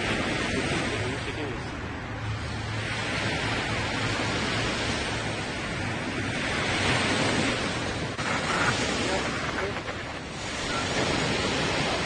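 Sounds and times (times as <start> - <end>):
sea waves: 0.0 - 12.0
wind buffeting microphone: 0.0 - 12.0.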